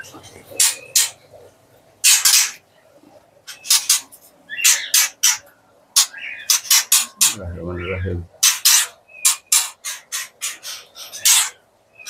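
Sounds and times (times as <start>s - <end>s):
birds squawking calls: 0.0s - 2.8s, 3.4s - 12.0s.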